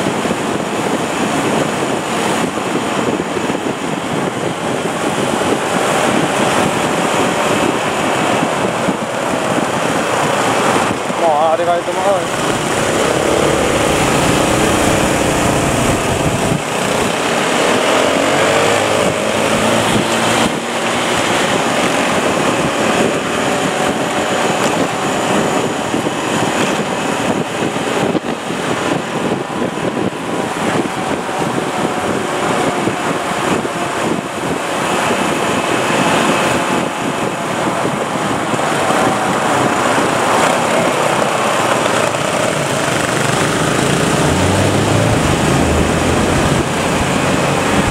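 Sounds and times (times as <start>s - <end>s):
motorcycle engines running: 0.0s - 47.9s
road and wind noise: 0.0s - 47.9s.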